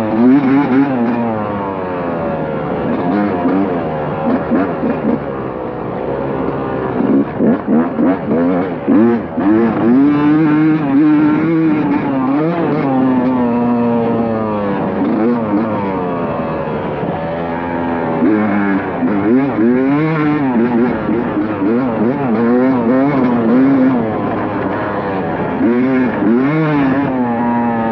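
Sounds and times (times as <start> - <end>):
motocross bike engine revving: 0.0 - 27.9.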